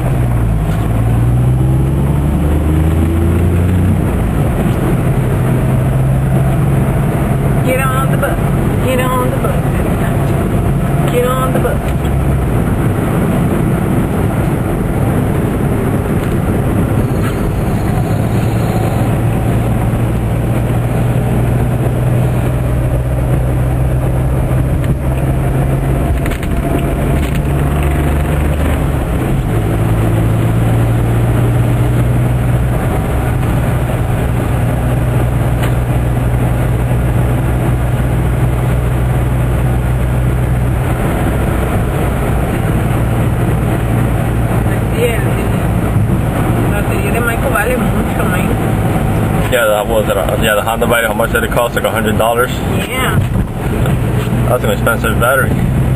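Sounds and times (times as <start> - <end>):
car engine hum: 0.0 - 55.9.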